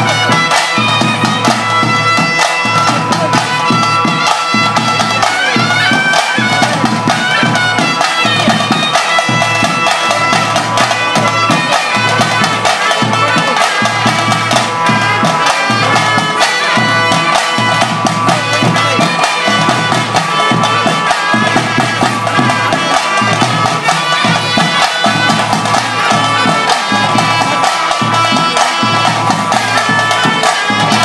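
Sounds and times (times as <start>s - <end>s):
brass bells: 0.0s - 31.0s
drums beating steadily: 0.0s - 31.0s
reedy pipes playing melody: 0.0s - 31.0s.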